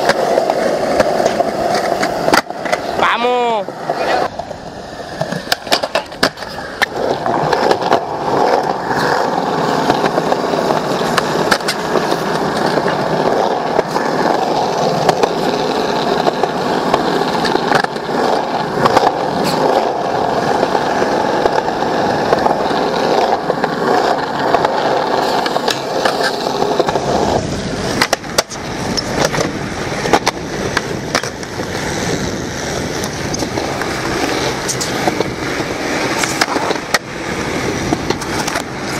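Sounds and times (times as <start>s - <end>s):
skateboard tail popping and landing: 0.0s - 3.0s, 3.7s - 38.9s
skateboard wheels rolling on pavement: 0.0s - 38.9s.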